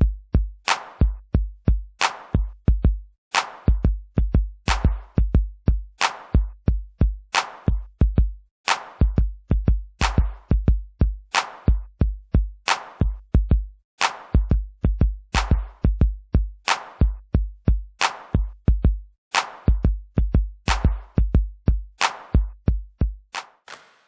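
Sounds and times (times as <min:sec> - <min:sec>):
electronic music with drum-machine beat: 0:00.0 - 0:24.0.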